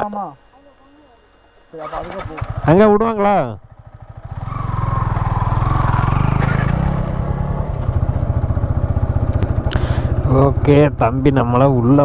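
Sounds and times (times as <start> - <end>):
motorcycle engine running: 1.8 - 12.0.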